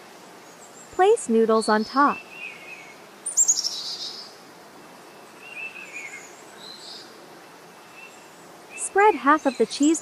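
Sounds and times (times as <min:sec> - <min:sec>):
steady background hiss: 0:00.0 - 0:10.0
birds chirping: 0:00.4 - 0:10.0.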